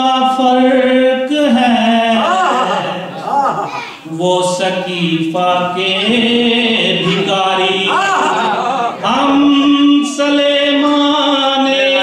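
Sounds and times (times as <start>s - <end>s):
man singing devotional chant: 0.0s - 3.1s, 4.0s - 8.0s, 8.9s - 12.0s.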